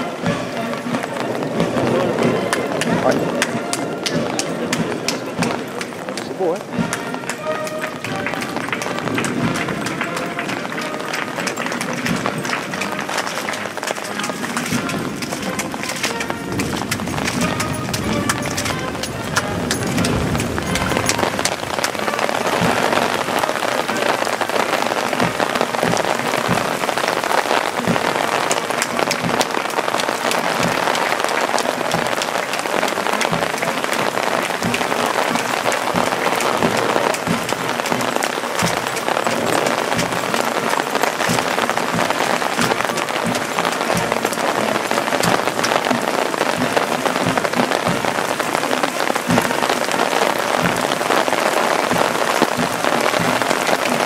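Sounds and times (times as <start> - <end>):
heavy rain on umbrella: 0.0 - 54.0.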